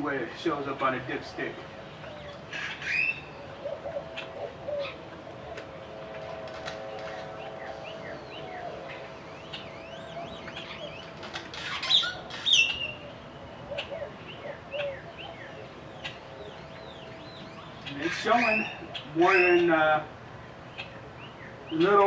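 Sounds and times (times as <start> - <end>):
faint steady hum: 0.0 - 22.0
birds chirping and singing: 0.8 - 22.0.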